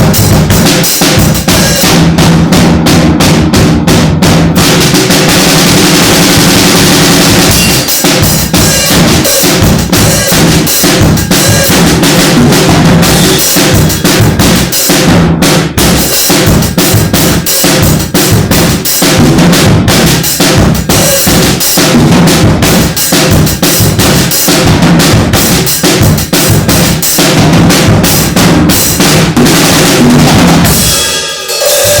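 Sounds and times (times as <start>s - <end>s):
drum kit played fast: 0.0s - 32.0s.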